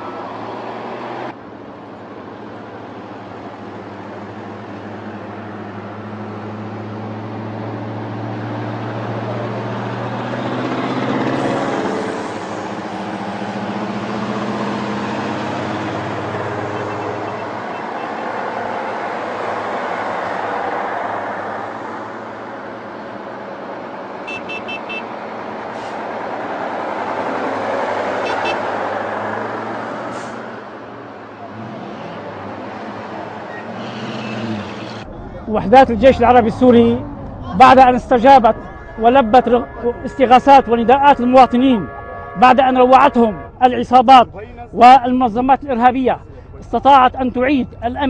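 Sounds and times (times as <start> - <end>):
heavy trucks engines droning: 0.0 - 48.0
tyre and road noise: 0.0 - 48.0.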